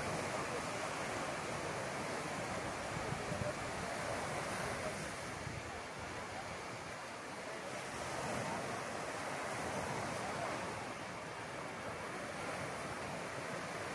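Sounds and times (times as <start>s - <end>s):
sea surf washing in: 0.0s - 13.9s.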